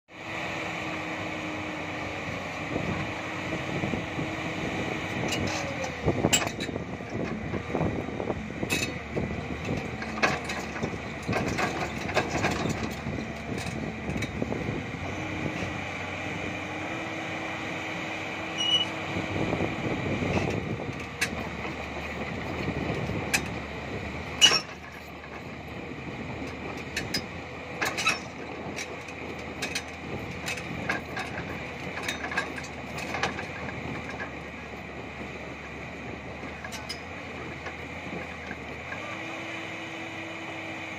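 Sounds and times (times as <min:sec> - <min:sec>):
excavator engine and hydraulics: 0:00.1 - 0:40.9.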